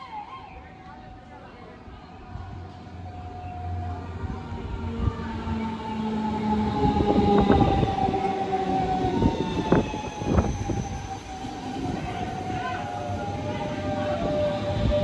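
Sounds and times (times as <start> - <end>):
electric train drive whine: 2.5 - 15.0.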